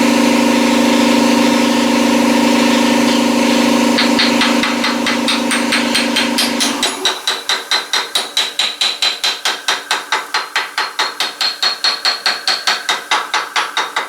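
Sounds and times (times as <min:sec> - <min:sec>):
rapid metallic tapping on hub: 0:00.0 - 0:14.0.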